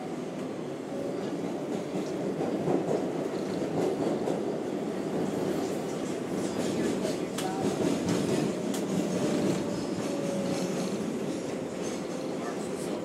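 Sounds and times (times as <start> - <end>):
subway car rumbling on rails: 0.0 - 13.0.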